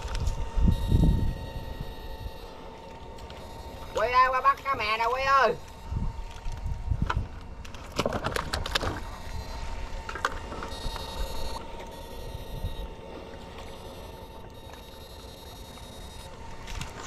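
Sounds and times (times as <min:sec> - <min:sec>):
fine high buzz: 0:00.0 - 0:17.0
inverter whining at high pitch: 0:00.0 - 0:17.0
low boat rumble: 0:00.0 - 0:17.0.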